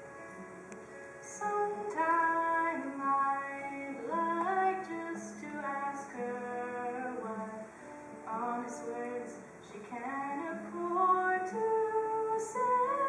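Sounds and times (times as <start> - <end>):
girl singing: 1.3 - 13.0.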